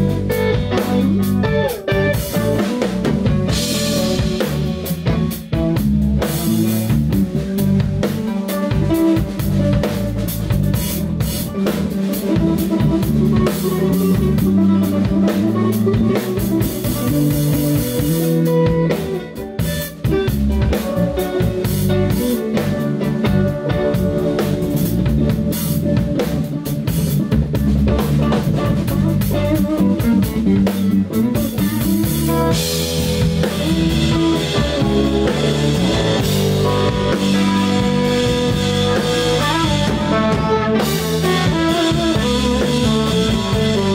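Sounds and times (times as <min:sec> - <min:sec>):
instrumental rock band: 0:00.0 - 0:43.9.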